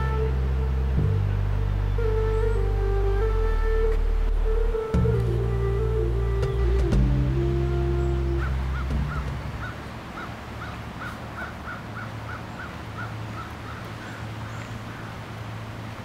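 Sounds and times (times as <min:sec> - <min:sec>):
bird calling repeated notes: 0:00.0 - 0:15.2.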